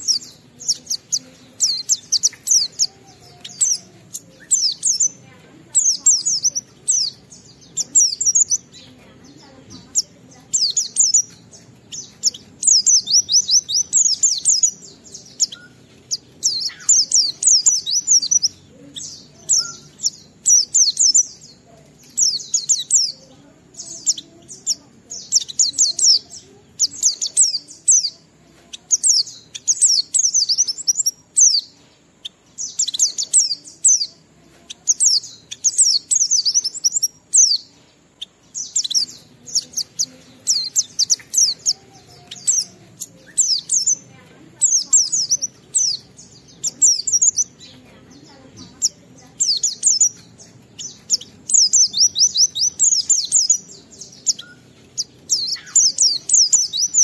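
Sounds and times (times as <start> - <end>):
bird twittering song: 0.0 - 57.0.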